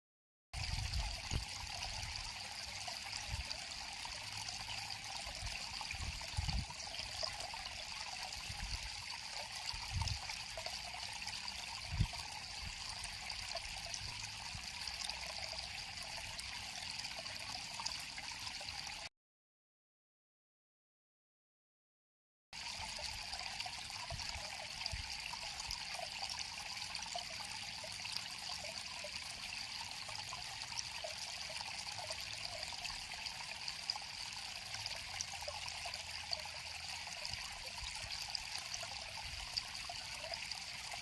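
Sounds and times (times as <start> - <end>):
river water flowing: 0.6 - 19.1, 22.6 - 41.0.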